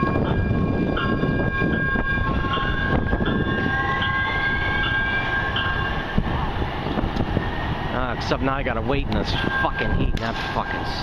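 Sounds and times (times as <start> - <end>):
train electric drive whine: 0.0 - 11.0
train rolling noise: 0.0 - 11.0.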